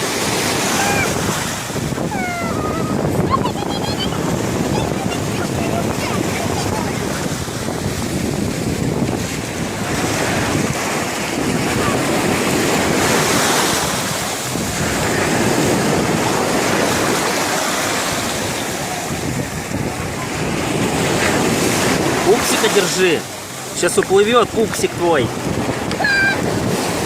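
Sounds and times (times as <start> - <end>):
sea surf breaking on shore: 0.0 - 27.0
wind buffeting microphone: 0.0 - 27.0.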